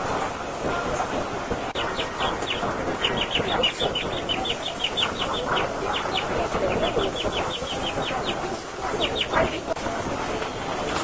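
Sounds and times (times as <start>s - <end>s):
murmur of street crowd: 0.0s - 11.0s.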